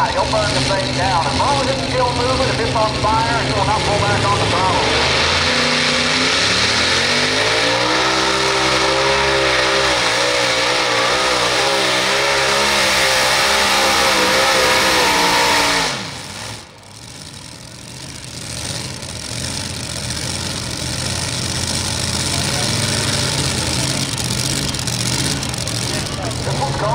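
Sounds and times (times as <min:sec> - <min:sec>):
engine idling: 0:00.0 - 0:26.9
tractor engine revving high: 0:00.0 - 0:26.9.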